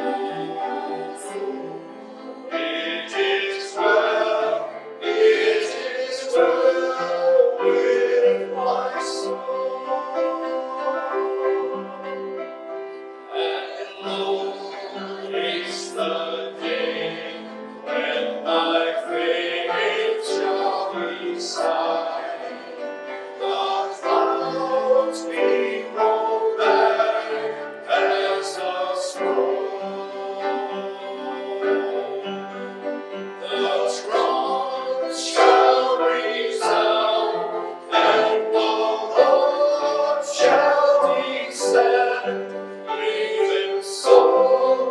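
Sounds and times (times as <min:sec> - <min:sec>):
people singing a hymn: 0:00.0 - 0:44.9.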